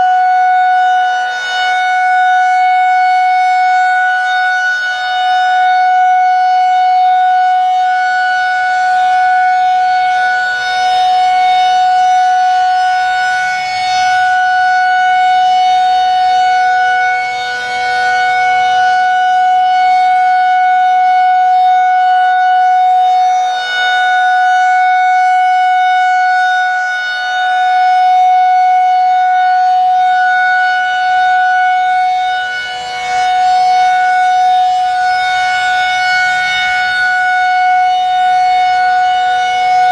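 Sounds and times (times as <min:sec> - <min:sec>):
rotating warning siren steady tone: 0:00.0 - 0:39.9.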